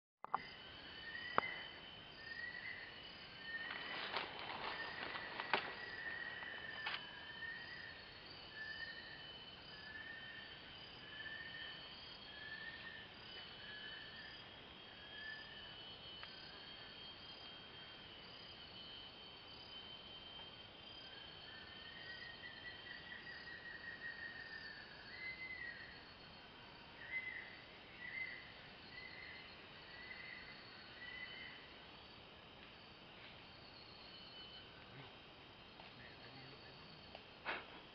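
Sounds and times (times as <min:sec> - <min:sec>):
high insect drone: 0:00.3 - 0:37.9.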